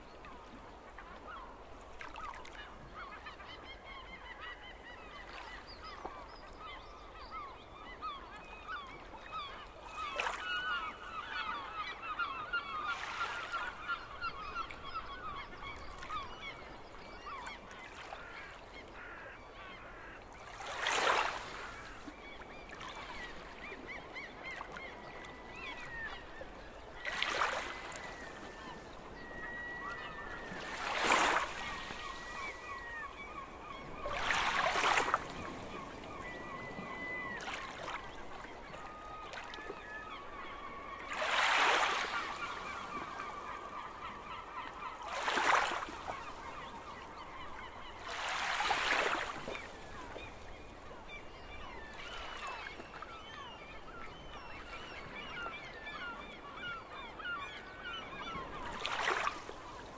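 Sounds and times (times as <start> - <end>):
gulls calling: 2.2 - 59.9.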